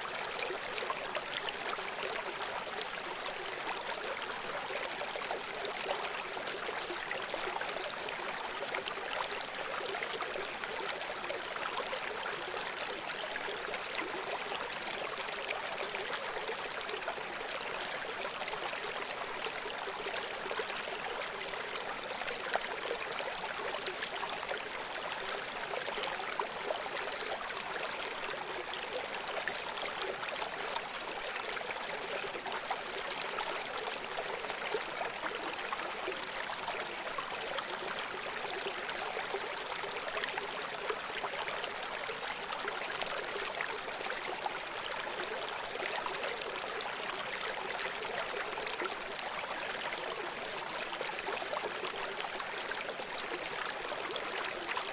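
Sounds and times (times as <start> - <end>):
stream babbling over rocks: 0.0 - 54.9.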